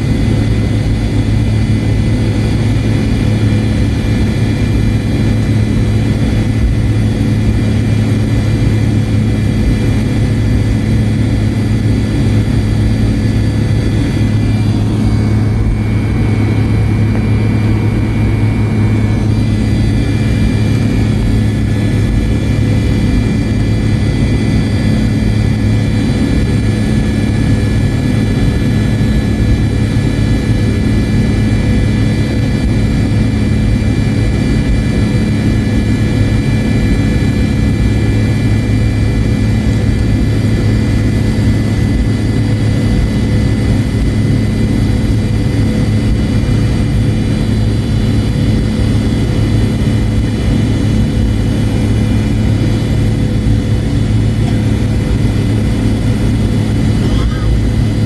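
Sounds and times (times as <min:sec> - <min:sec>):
jet engine drone with whining tones: 0:00.0 - 0:58.0.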